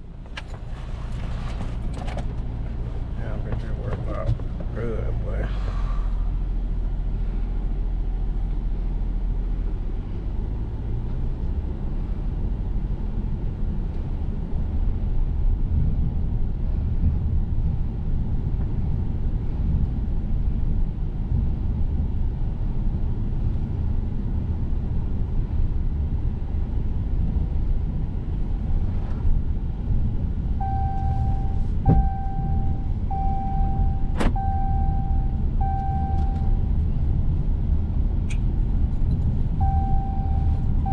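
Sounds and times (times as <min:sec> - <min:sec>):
low steady motor rumble: 0:00.0 - 0:40.9.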